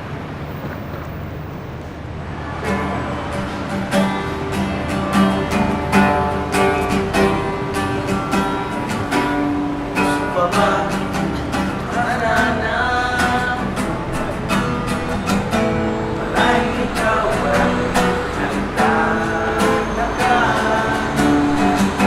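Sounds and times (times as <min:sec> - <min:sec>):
acoustic guitar strumming: 0:02.3 - 0:22.0.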